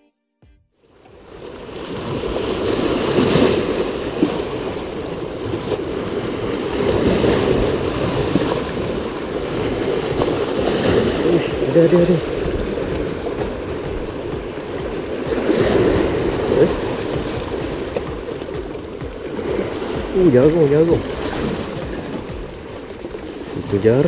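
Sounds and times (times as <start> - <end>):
sea waves washing in: 0.8 - 24.0
wind buffeting microphone: 1.2 - 24.0.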